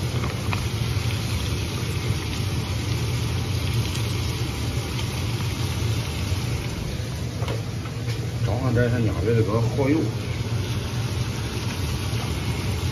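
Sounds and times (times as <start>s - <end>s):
ribs sizzling in a hot wok: 0.0s - 12.9s
steady low hum: 0.0s - 12.9s.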